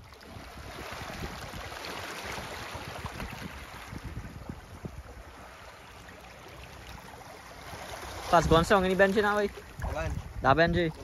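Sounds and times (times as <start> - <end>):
wind buffeting microphone: 0.0 - 5.8, 7.6 - 11.0.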